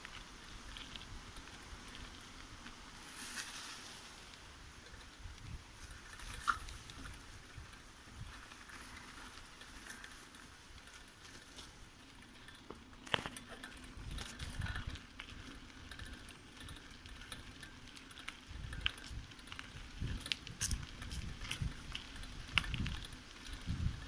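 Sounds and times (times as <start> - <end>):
tyres crackling on forest path: 0.0 - 24.0.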